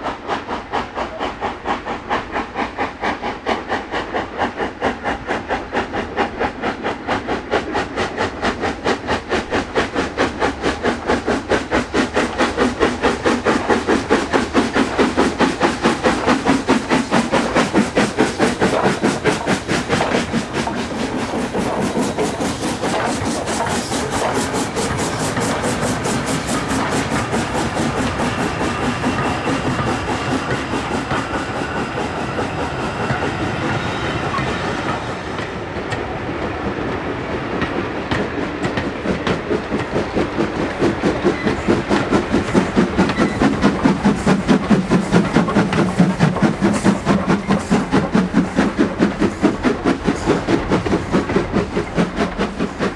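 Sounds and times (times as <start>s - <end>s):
steam locomotive exhaust beating: 0.0s - 52.9s
train wheels clattering on track: 0.0s - 52.9s.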